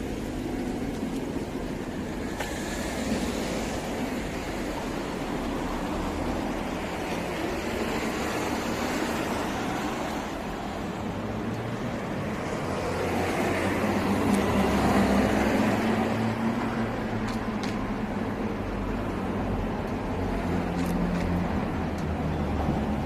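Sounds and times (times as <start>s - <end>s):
traffic road noise: 0.0s - 23.0s.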